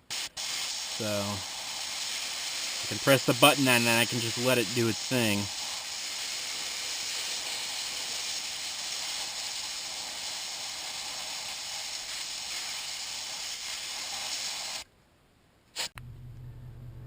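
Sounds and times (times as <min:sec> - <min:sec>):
air hissing out of tire: 0:00.0 - 0:14.8.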